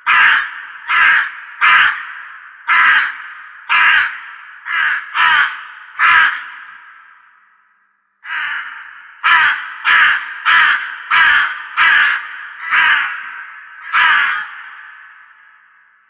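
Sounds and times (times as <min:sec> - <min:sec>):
crow cawing: 0:00.0 - 0:16.0.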